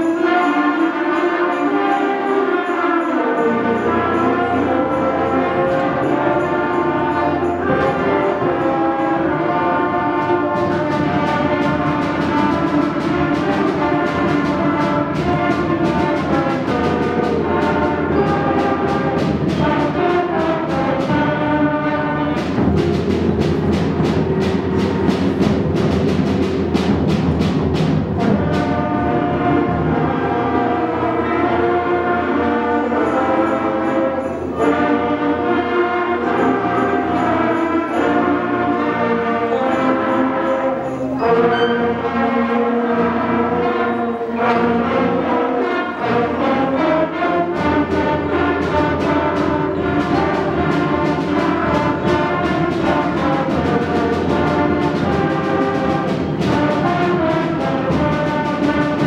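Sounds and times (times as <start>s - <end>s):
concert band playing: 0.0s - 59.0s
percussion steady beat: 0.0s - 59.0s.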